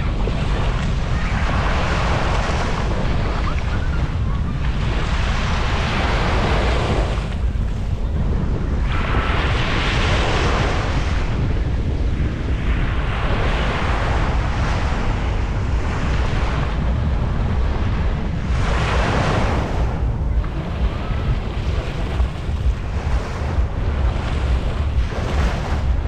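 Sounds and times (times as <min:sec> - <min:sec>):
sea waves breaking on beach: 0:00.0 - 0:26.0
wind on microphone: 0:00.0 - 0:26.0.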